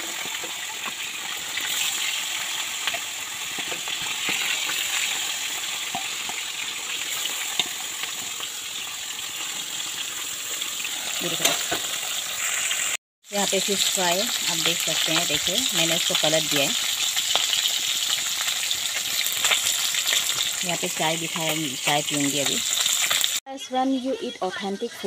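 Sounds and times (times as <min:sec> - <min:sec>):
fish sizzling in hot oil: 0:00.0 - 0:23.4.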